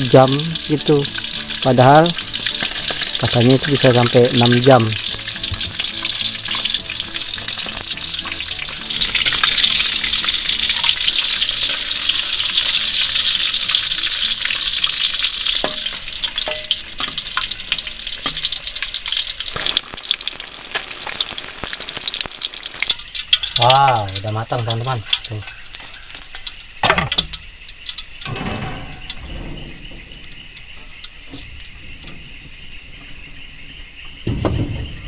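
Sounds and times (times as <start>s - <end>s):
fish frying in oil: 0.0s - 35.0s.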